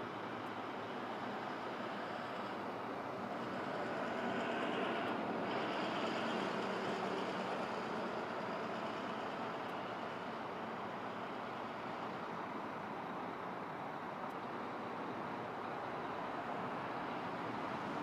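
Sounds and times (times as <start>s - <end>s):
faint jet whine: 0.0s - 18.0s.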